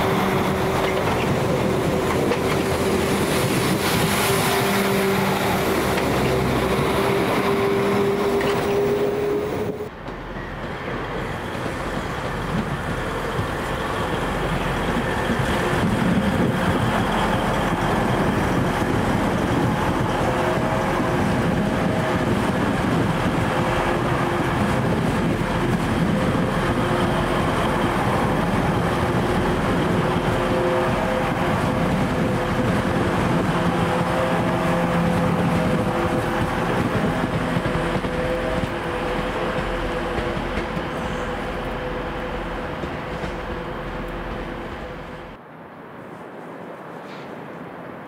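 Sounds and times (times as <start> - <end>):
train mechanical hum: 0.0 - 48.0.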